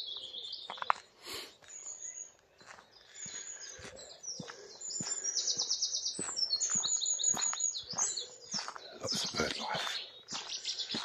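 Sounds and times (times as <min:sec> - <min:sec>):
songbirds singing: 0:00.0 - 0:11.0
walking footsteps: 0:00.2 - 0:11.0.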